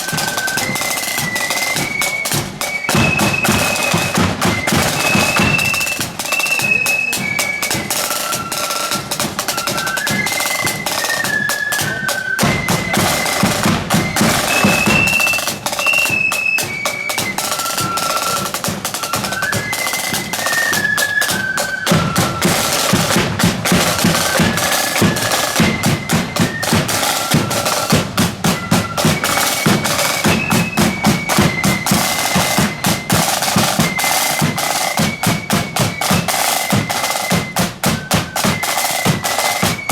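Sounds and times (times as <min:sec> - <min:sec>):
flute melody: 0:00.0 - 0:39.9
snare drums: 0:00.0 - 0:39.9.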